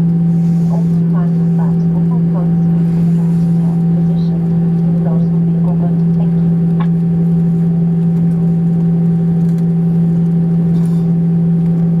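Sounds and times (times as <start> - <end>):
steady mechanical drone: 0.0 - 12.0.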